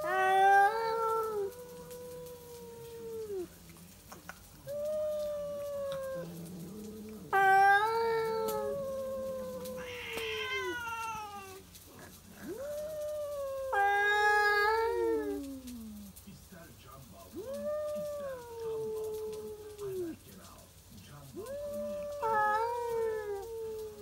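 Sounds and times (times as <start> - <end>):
cats yowling: 0.0 - 16.3, 17.2 - 24.0.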